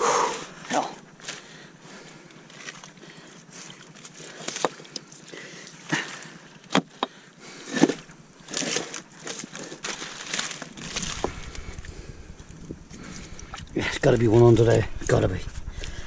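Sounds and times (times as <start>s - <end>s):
kelp rustling and sloshing: 0.2s - 16.0s.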